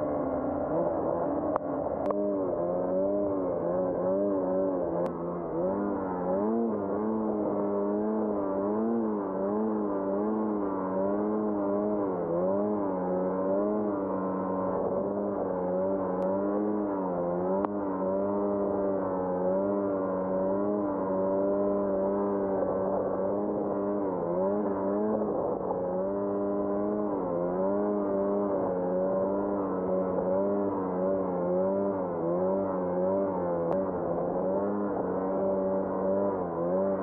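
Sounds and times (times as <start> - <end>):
snowmobile engine revving: 0.0 - 37.0.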